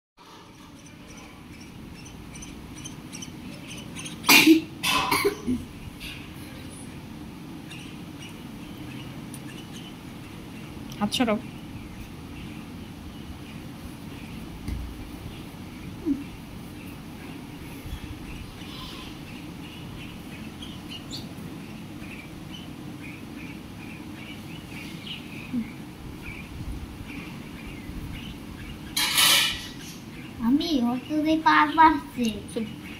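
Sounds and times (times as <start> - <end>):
faint bird chirping: 0.2 - 32.9
low background noise: 0.2 - 32.9.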